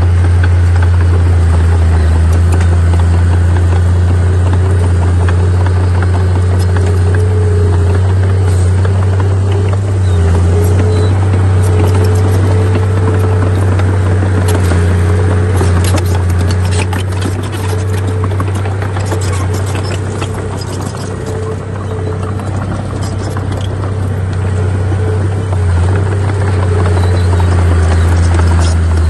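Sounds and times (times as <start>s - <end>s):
bulldozer diesel engine drone: 0.0s - 29.0s
clatter and knocks: 0.0s - 29.0s.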